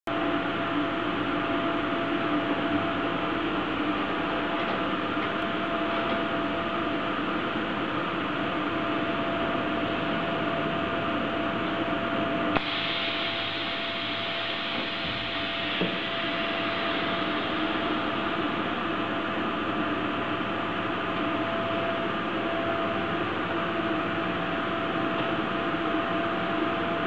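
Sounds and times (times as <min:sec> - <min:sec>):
welding machinery humming: 0:00.2 - 0:27.0.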